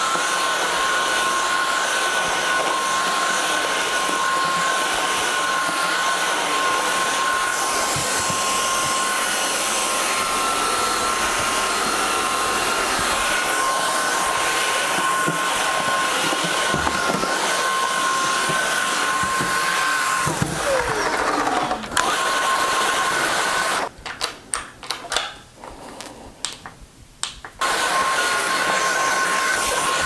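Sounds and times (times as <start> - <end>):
stick vacuum motor whine: 0.0 - 23.9, 27.6 - 30.0.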